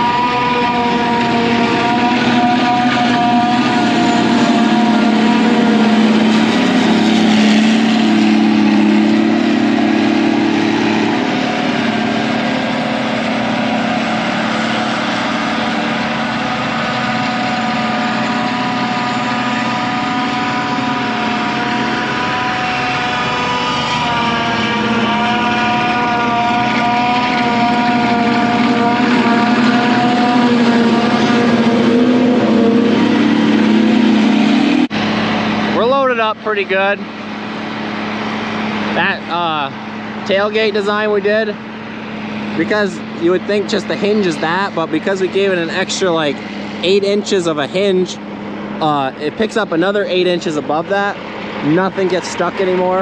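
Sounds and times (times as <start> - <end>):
diesel engine drone: 0.0 - 53.0
steady machine whine: 0.0 - 53.0.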